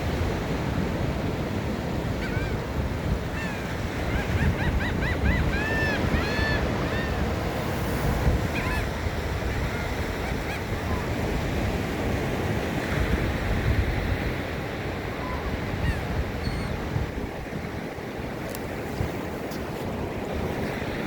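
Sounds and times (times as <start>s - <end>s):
ocean surf washing in: 0.0s - 21.0s
wind buffeting microphone: 0.0s - 21.0s.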